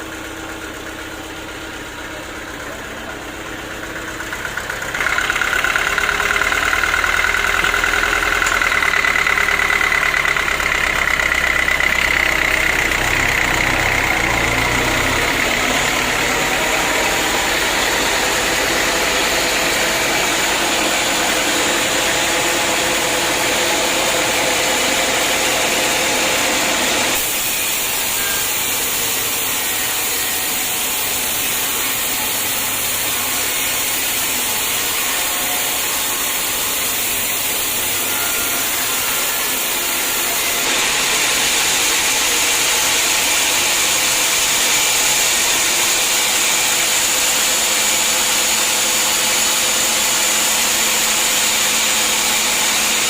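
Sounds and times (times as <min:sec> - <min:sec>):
sawmill saw cutting log: 0:00.0 - 0:53.0.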